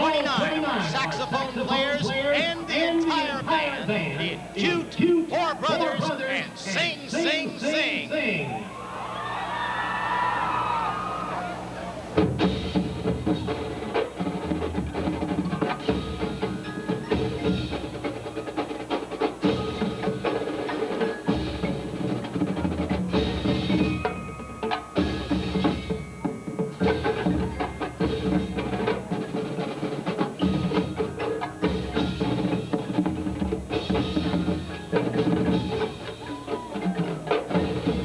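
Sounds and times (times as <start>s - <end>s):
drum and percussion strokes: 0.0s - 8.2s, 9.6s - 38.0s
marching band playing big-band jazz: 0.0s - 8.4s, 12.0s - 38.0s.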